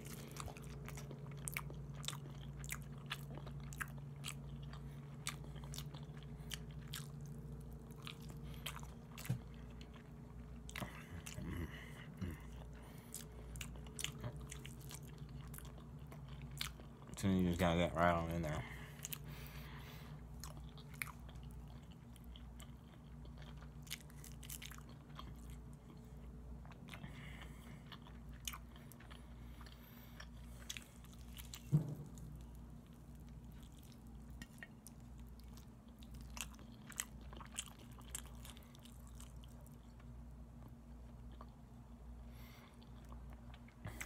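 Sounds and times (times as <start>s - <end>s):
person chewing food: 0.0s - 17.2s, 17.9s - 44.0s
low steady hum: 0.0s - 44.0s.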